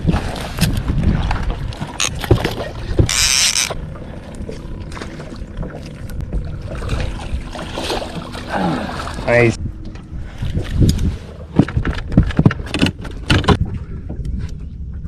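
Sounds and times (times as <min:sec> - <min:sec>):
wind and water rumbling: 0:00.0 - 0:15.0.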